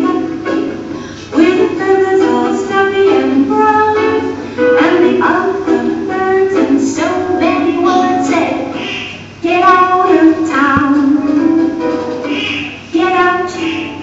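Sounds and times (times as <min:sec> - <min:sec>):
young voices singing: 0:01.3 - 0:14.0.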